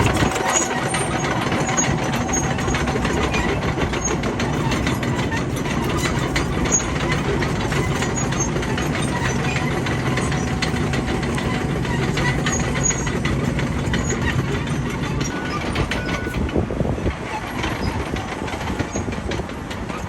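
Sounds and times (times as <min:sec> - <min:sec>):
bulldozer diesel engine running: 0:00.0 - 0:20.0
sharp clicks and clanks: 0:00.0 - 0:20.0.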